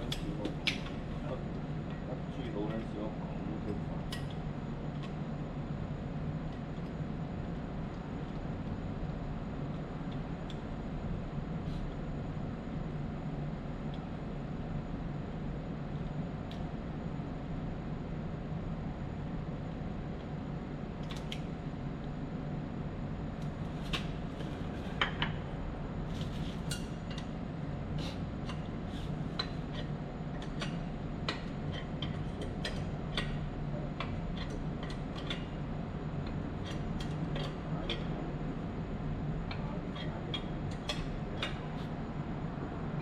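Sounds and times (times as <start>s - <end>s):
low mechanical hum: 0.0s - 43.0s.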